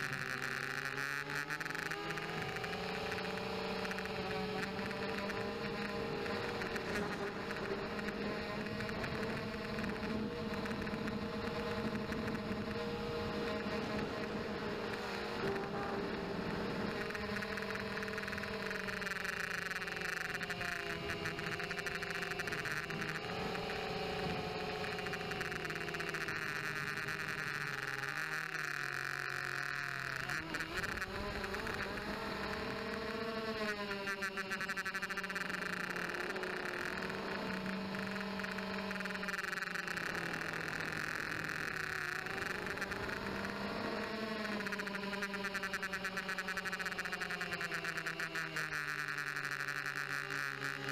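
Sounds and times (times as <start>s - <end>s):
quadcopter motors whining: 0.0s - 50.9s.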